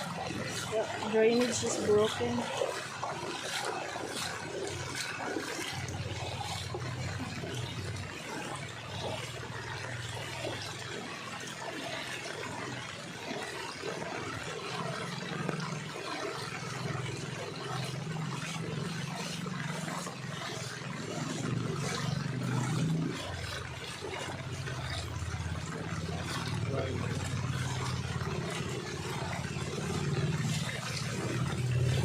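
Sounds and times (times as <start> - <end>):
floodwater rushing and trickling: 0.0 - 32.0.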